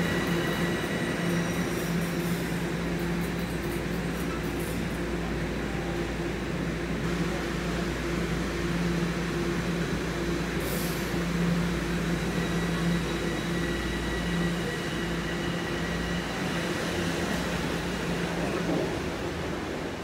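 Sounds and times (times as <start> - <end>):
subway train motor hum: 0.0 - 20.0.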